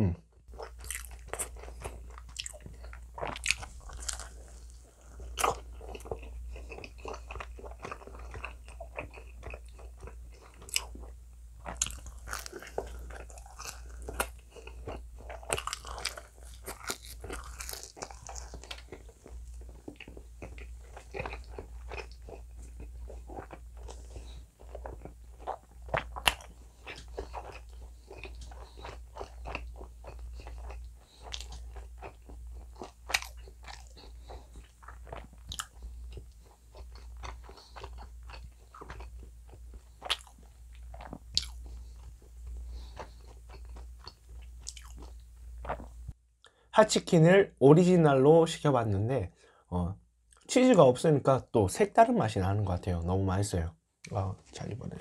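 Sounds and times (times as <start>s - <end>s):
biting and chewing pizza: 0.5s - 46.0s.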